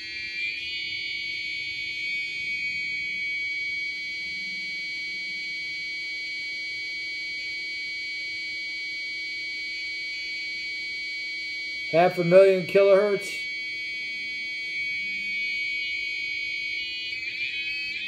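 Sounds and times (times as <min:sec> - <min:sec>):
high-pitched electronic buzzing tone: 0:00.0 - 0:18.0.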